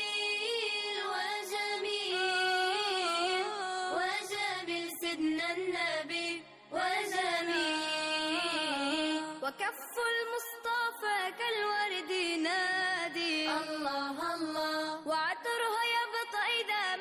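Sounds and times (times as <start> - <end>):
devotional song sung over music: 0.0 - 17.0.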